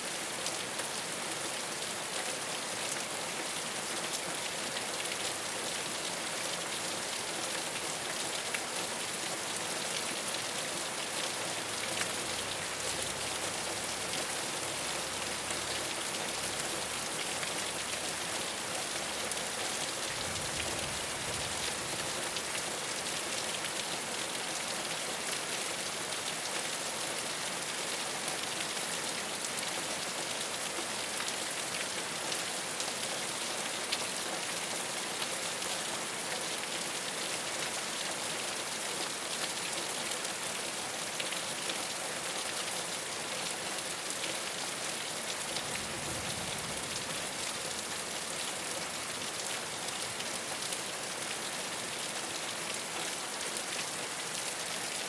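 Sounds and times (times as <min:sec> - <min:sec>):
rain on a rooftop: 0:00.0 - 0:55.0.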